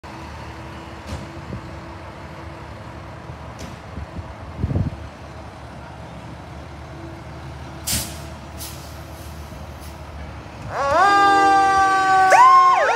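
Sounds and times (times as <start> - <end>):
diesel engines idling: 0.0 - 12.9.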